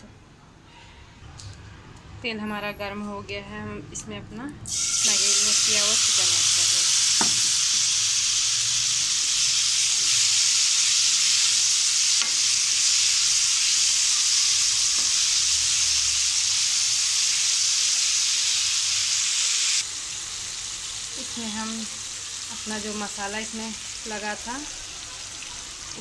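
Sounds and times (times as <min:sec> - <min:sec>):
chicken sizzling in oil: 0:04.7 - 0:26.0.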